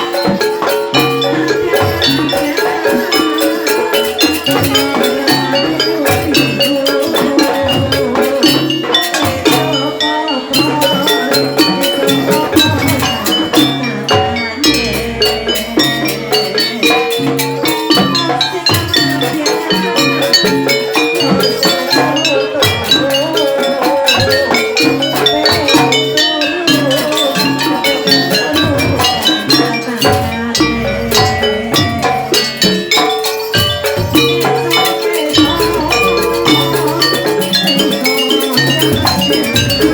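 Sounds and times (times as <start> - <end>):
drums: 0.0 - 39.9
metal pitched percussion ringing: 0.0 - 39.9.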